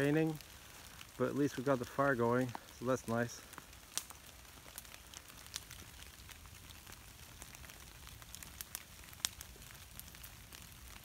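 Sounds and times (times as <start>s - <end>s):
light rain on leaf litter: 0.0s - 11.0s.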